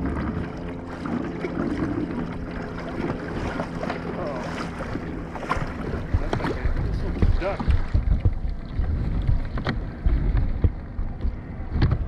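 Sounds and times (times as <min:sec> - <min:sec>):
water washing along hull: 0:00.0 - 0:12.0.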